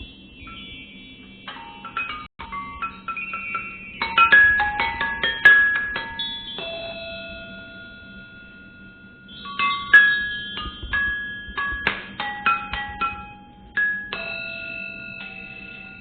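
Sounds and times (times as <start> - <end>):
mallet percussion notes: 1.5 - 16.0.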